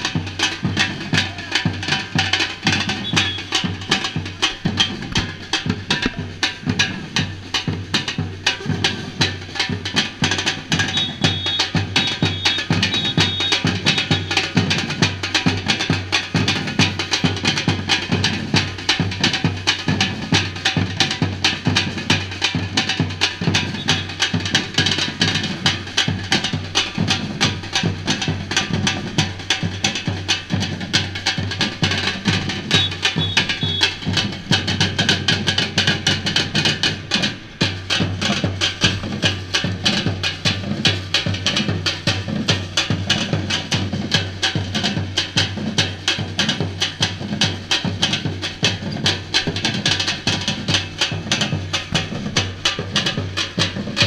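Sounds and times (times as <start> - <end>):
samba-reggae drum band: 0.0 - 54.0.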